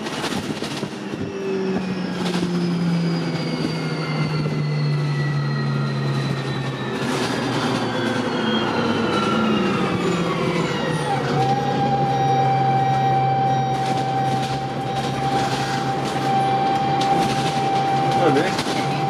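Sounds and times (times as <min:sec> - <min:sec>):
bus engine with drivetrain whine: 0:00.0 - 0:19.0.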